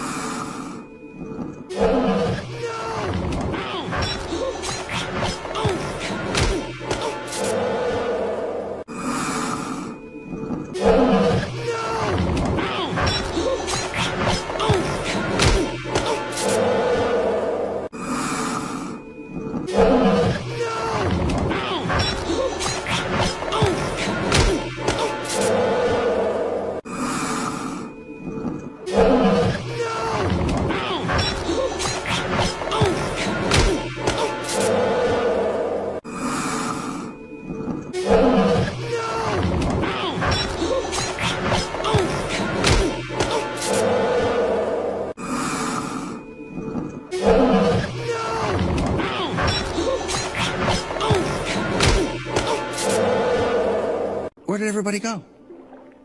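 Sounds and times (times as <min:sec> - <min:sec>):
dramatic orchestral music: 0:00.9 - 0:56.0.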